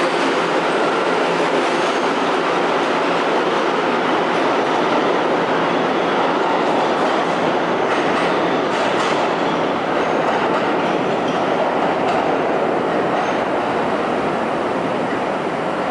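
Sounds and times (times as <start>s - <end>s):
steel wheels rumbling on rails: 0.0s - 15.9s.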